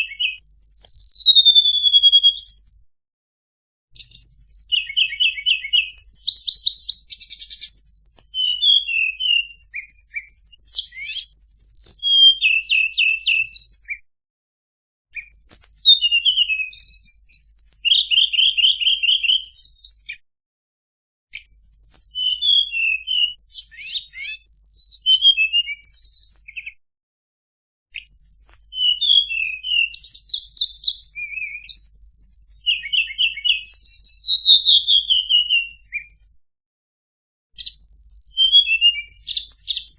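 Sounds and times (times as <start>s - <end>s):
bird song chirps and trills: 0.0s - 2.9s, 4.0s - 14.0s, 15.1s - 20.2s, 21.3s - 26.8s, 27.9s - 36.4s, 37.6s - 39.9s.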